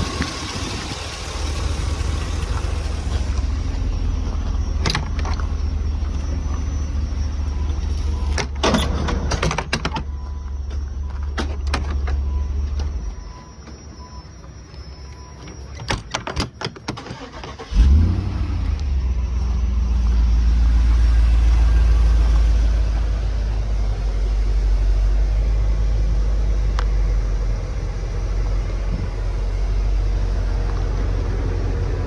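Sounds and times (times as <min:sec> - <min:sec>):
truck engine cranking and idling: 0:00.0 - 0:32.0.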